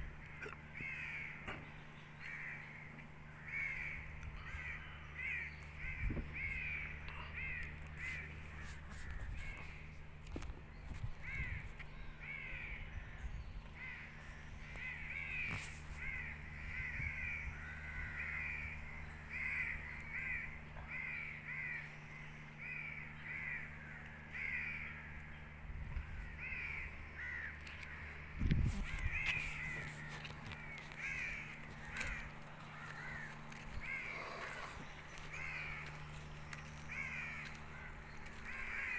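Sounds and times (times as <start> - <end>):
steady low hum: 0.0 - 38.9
crows cawing: 0.2 - 9.9, 11.0 - 13.1, 13.7 - 38.9.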